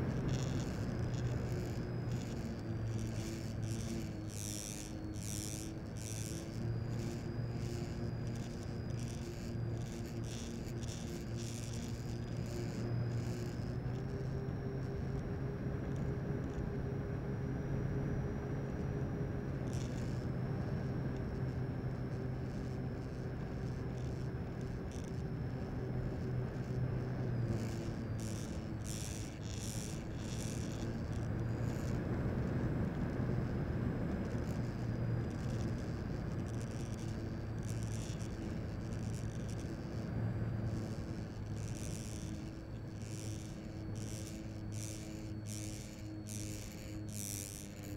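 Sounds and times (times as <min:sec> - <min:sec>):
model airplane motor whine: 0:00.0 - 0:47.9.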